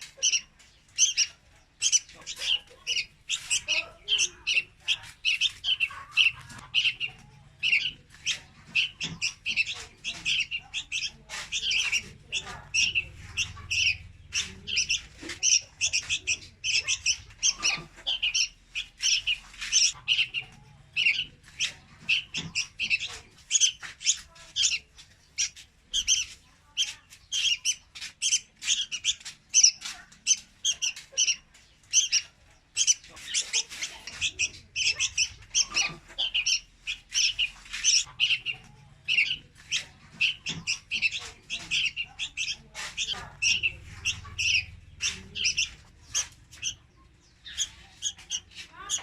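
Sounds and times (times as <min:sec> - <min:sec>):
bird calling high calls: 0:00.0 - 0:49.0.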